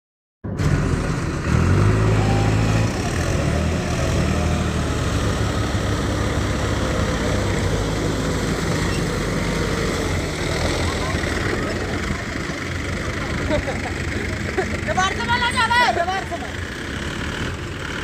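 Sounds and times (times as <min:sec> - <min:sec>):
tractor diesel engine running: 0:00.5 - 0:18.0.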